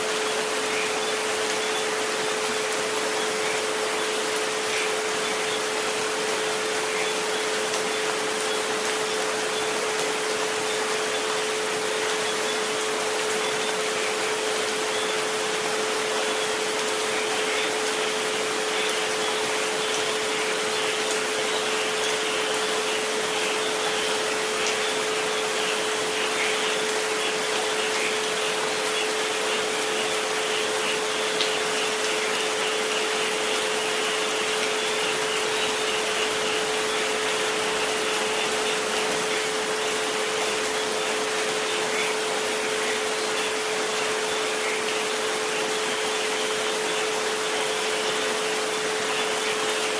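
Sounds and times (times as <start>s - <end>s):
rain hiss: 0.0s - 49.9s.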